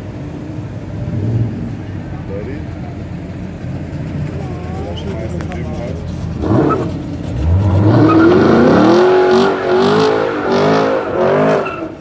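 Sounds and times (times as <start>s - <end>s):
car engine revving: 0.9s - 12.0s.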